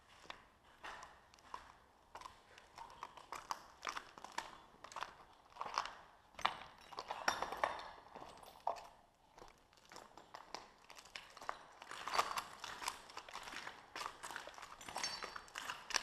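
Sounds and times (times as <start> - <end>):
footsteps crunching over broken glass: 0.1 - 16.0.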